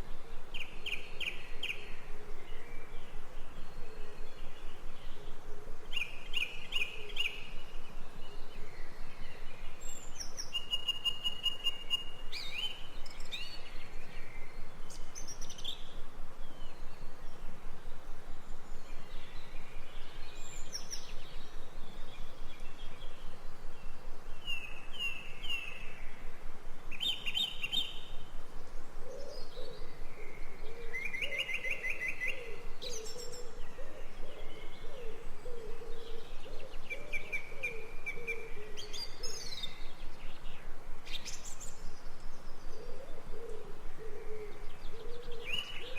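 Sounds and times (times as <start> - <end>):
birds chirping and trilling: 0.0 - 45.9
faint steady hiss: 0.0 - 45.9.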